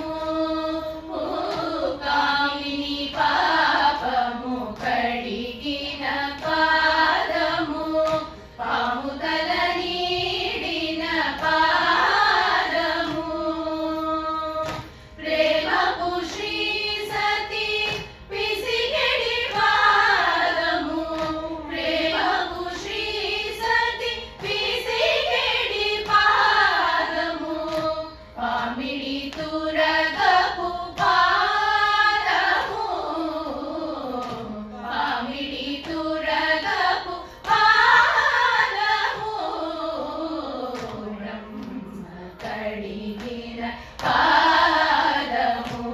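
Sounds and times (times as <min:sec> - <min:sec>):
women singing in unison: 0:00.0 - 0:45.9.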